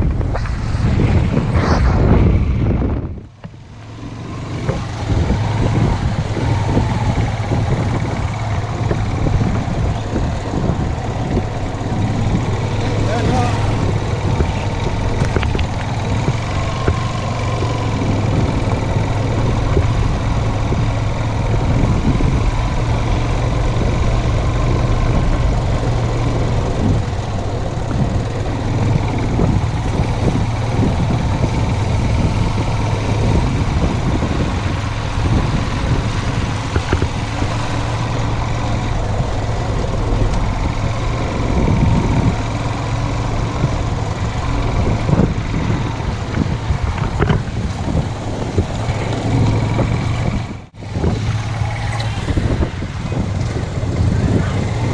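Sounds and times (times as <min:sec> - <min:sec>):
motorcycle engine running: 0:00.0 - 0:54.9
road and wind noise: 0:00.0 - 0:54.9.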